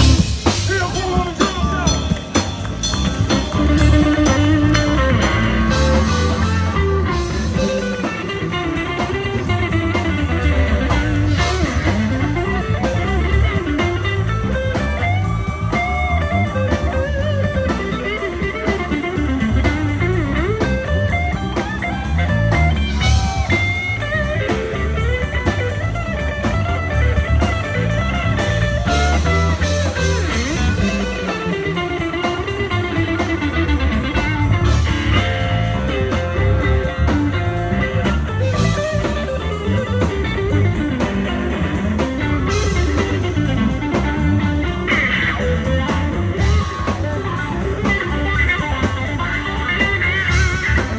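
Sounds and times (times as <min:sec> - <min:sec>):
bass: 0:00.0 - 0:50.9
drum beat: 0:00.0 - 0:50.9
electric guitar lead: 0:00.0 - 0:50.9.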